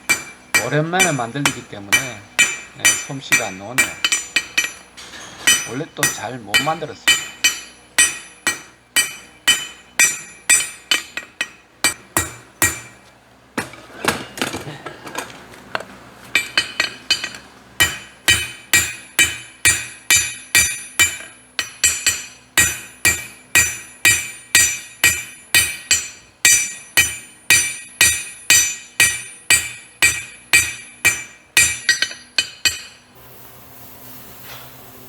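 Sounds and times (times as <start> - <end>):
hammer striking horseshoe on anvil: 0.0 - 14.6, 16.3 - 33.1.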